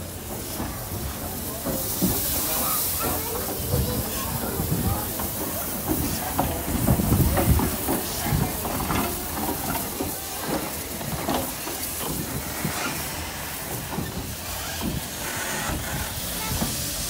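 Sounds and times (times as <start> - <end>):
locomotive exhaust beats: 0.0 - 17.0
steam hissing: 0.0 - 17.0.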